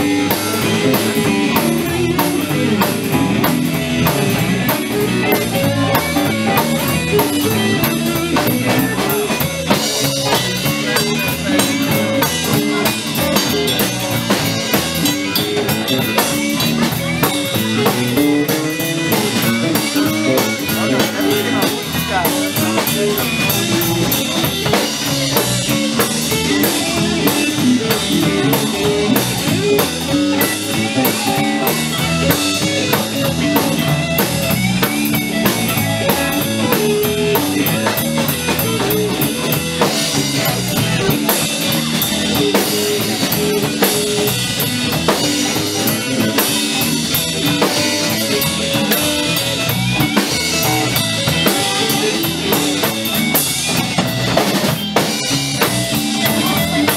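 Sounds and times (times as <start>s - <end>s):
live blues band playing: 0.0s - 56.9s.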